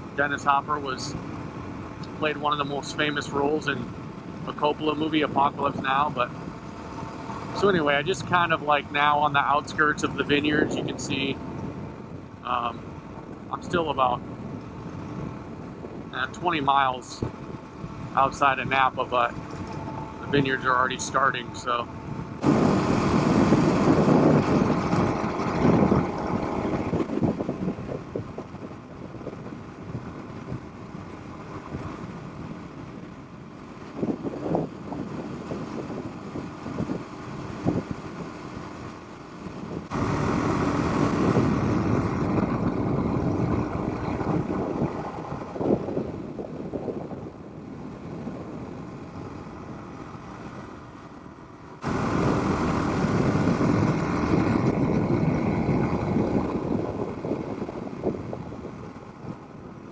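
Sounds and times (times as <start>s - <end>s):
wind rush on microphone: 0.0s - 59.9s
motorcycle engine running: 10.4s - 59.9s.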